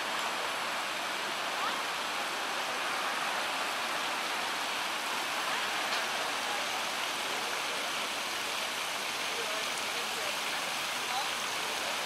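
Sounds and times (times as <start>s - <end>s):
fountain water splashing into pool: 0.0s - 12.0s.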